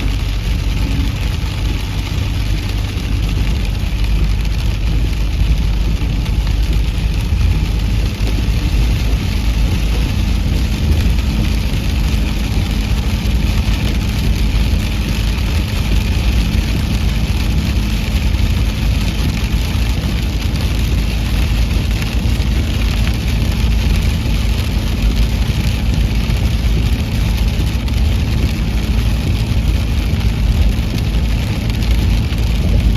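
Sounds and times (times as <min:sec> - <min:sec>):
car road rumble and hiss: 0:00.0 - 0:32.9
engine hum: 0:00.0 - 0:32.9.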